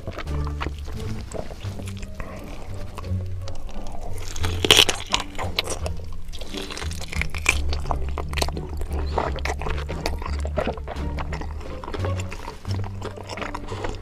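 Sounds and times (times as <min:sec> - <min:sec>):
background music with bass line: 0:00.0 - 0:14.0
crunching and chewing: 0:00.0 - 0:14.0.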